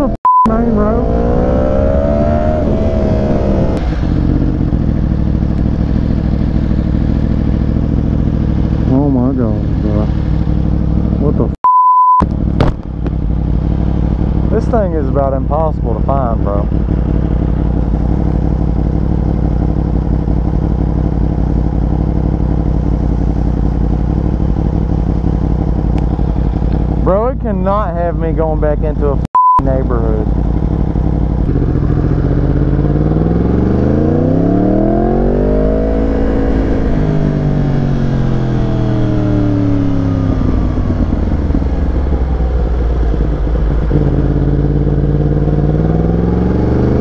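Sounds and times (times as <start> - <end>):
motorcycle engine revving: 0.0 - 11.6, 12.2 - 47.0.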